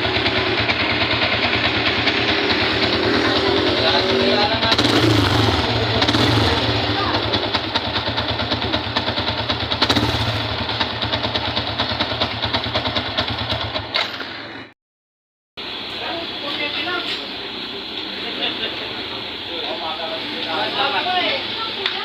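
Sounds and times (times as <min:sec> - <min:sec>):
motorcycle engine idling: 0:00.0 - 0:14.6, 0:15.6 - 0:22.0.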